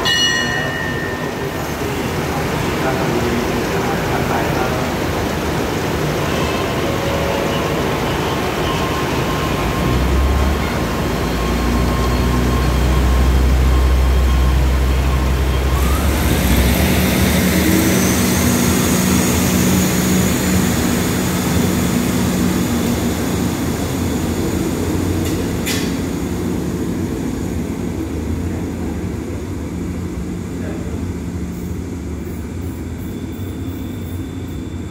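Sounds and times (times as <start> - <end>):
diesel train engine drone: 0.0 - 34.9
train cars rolling on rails: 0.0 - 34.9.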